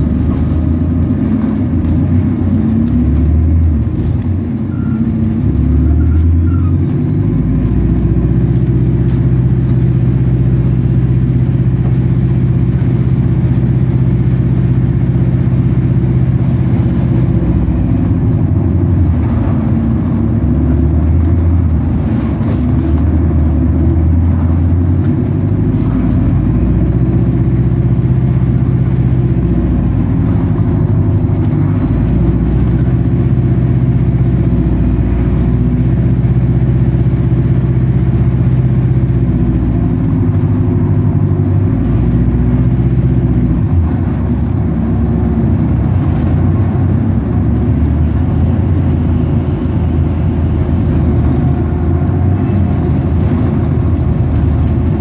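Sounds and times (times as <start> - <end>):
bus engine running: 0.0 - 55.0
road noise: 0.0 - 55.0.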